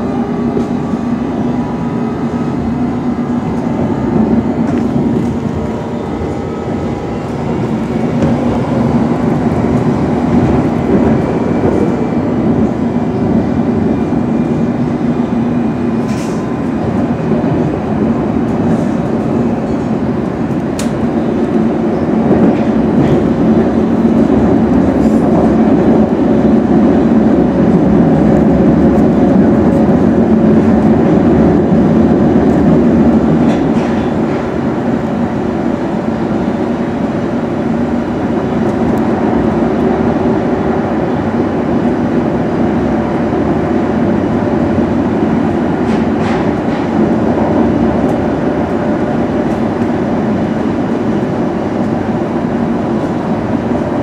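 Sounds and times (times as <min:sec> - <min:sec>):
low motor hum: 0:00.0 - 0:54.0
train wheels rumbling on rail: 0:00.0 - 0:54.0.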